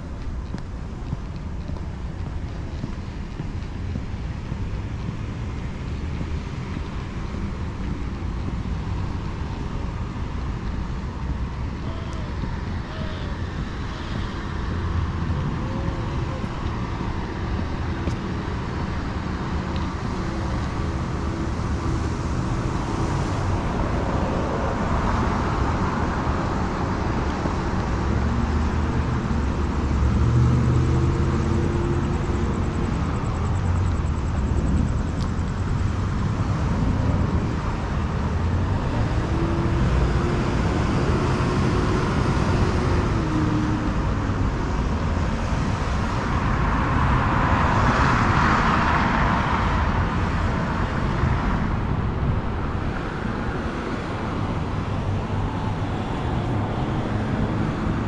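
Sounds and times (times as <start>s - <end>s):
cars passing: 0.0s - 58.0s
traffic engines rumbling: 0.0s - 58.0s
heavy engine sound: 9.4s - 58.0s.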